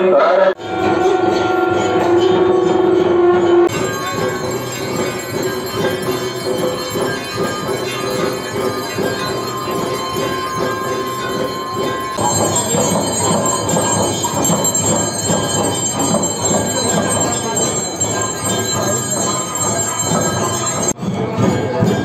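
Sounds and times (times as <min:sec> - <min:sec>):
crowd din: 0:00.0 - 0:22.0
bells ringing: 0:00.6 - 0:22.0.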